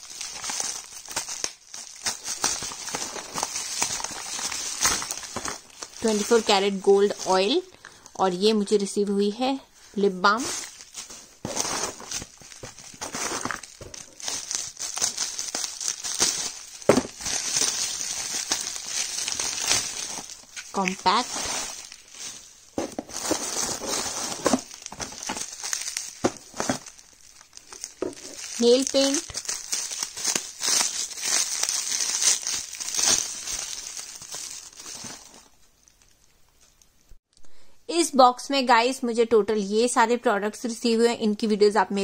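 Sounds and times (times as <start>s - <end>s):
bubble wrap crinkling: 0.0s - 8.0s, 10.1s - 37.0s.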